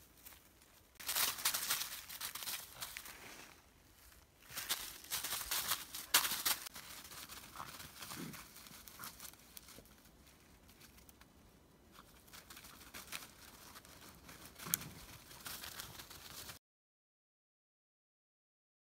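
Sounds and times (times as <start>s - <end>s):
dry leaves rustling under paws: 0.0s - 16.6s.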